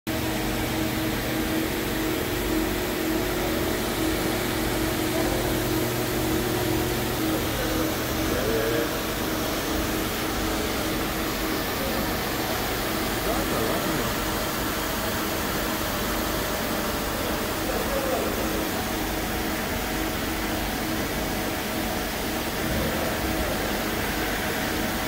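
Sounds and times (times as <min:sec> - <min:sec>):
lathe running: 0:00.1 - 0:25.0
low mechanical hum: 0:00.1 - 0:25.0.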